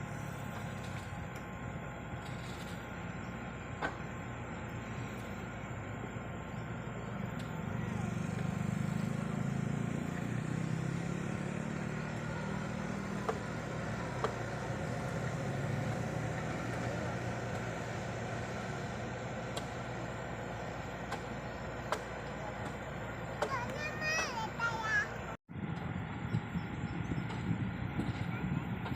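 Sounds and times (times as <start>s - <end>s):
heavy diesel engine running: 0.0s - 28.9s.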